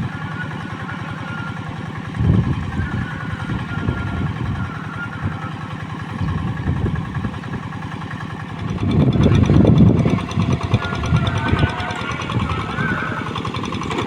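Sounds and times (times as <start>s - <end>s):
diesel engine chugging: 0.0s - 14.0s.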